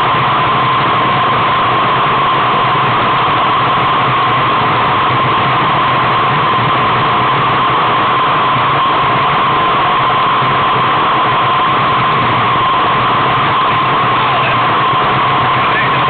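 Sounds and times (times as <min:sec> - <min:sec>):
steady tone: 0:00.0 - 0:16.0.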